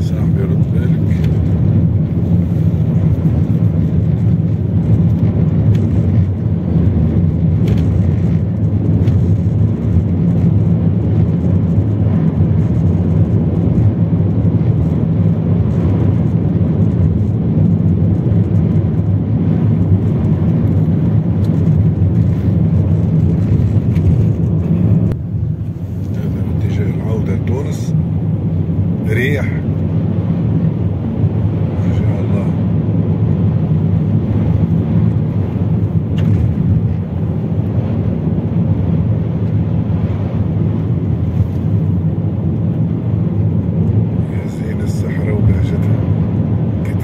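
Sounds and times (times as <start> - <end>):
car engine and tyres rumbling: 0.0 - 47.0.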